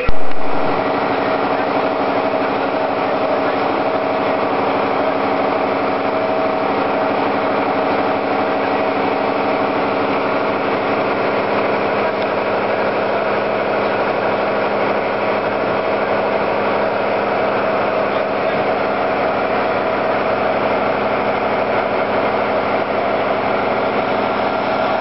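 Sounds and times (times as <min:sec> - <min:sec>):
fire engine motor running: 0:00.0 - 0:25.0.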